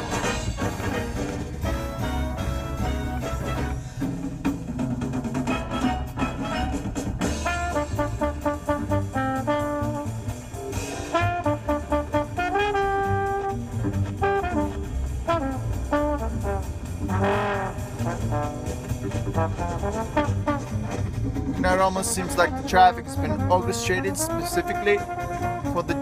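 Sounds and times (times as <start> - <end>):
jazz with brass on car radio: 0.0 - 26.0.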